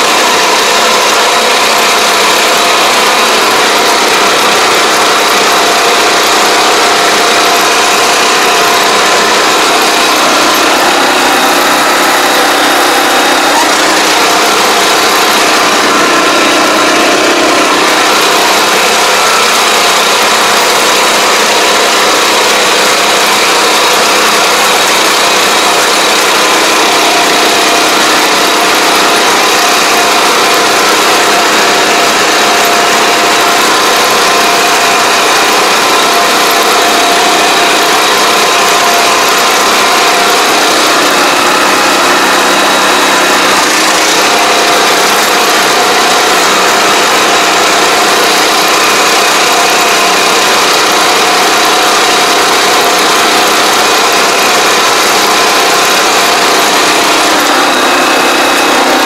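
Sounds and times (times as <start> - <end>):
small engine running with whine: 0.0 - 59.0.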